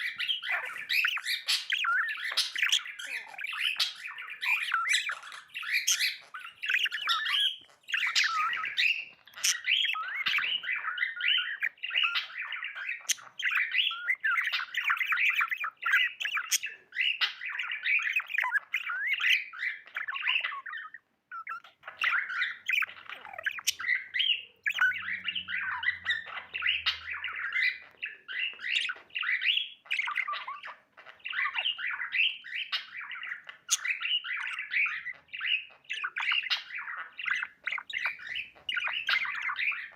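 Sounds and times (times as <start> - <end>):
budgerigar chirping: 0.0 - 39.9.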